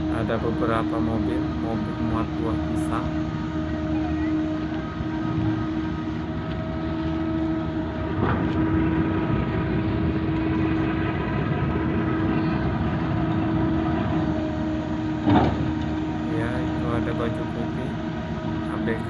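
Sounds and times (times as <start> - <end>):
diesel engines humming: 0.0 - 19.0.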